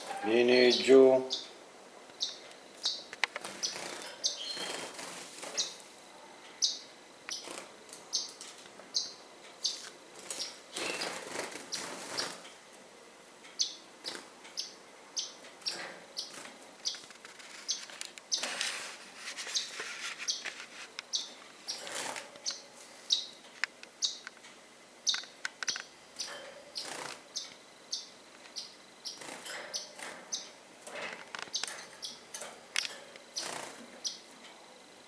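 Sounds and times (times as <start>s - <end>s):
birds chirping: 0.0s - 5.9s, 6.5s - 12.4s, 13.5s - 18.6s, 19.5s - 24.4s, 25.0s - 34.4s.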